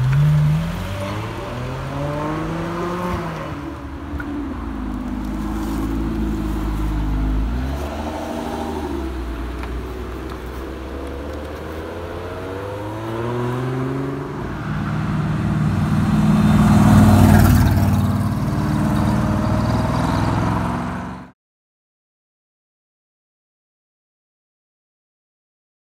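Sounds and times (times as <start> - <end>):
car engine accelerating: 0.0 - 21.3.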